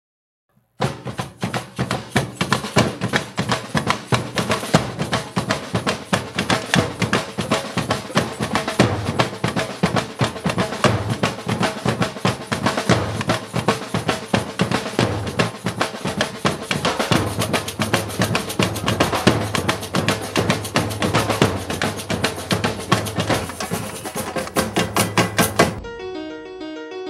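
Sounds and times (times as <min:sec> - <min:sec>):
fast drum rhythm: 0:00.8 - 0:25.8.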